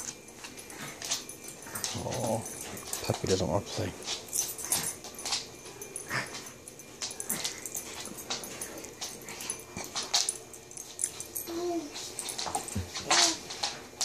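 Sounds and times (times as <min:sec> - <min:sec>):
dog breathing and rustling: 0:00.0 - 0:14.0.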